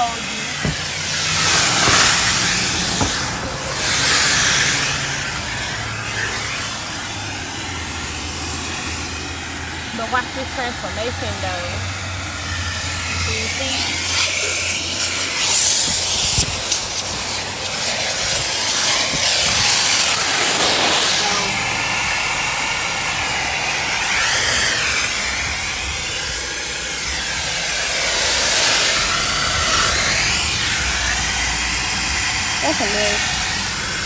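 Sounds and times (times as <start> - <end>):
vacuum hose sucking: 0.0 - 10.1, 10.8 - 34.0.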